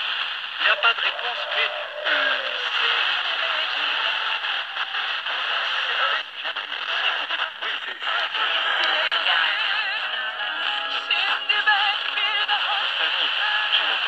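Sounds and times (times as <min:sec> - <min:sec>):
faint radio broadcast audio: 0:00.0 - 0:14.0
radio static hiss: 0:00.0 - 0:14.0.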